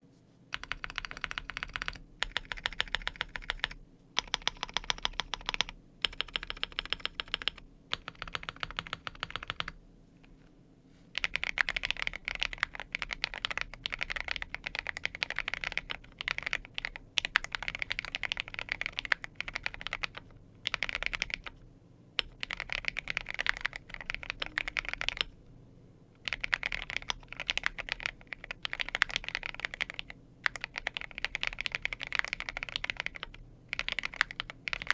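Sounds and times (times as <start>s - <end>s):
mechanical keyboard typing: 0.5s - 9.8s, 11.2s - 21.6s, 22.2s - 25.4s, 26.2s - 34.9s.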